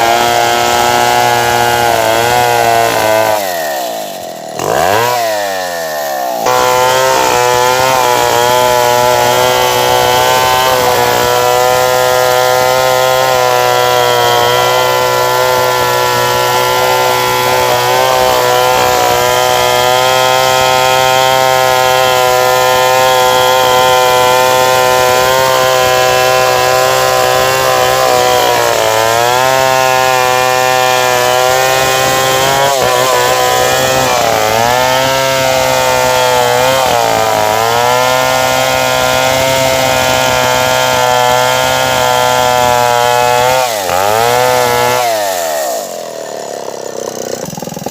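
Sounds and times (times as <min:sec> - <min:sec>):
chainsaw running at high speed: 0:00.0 - 0:47.9.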